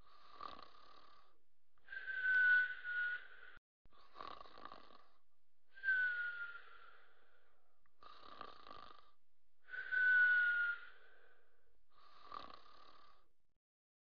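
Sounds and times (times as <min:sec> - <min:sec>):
soft snoring with whistle: 0:00.0 - 0:13.3.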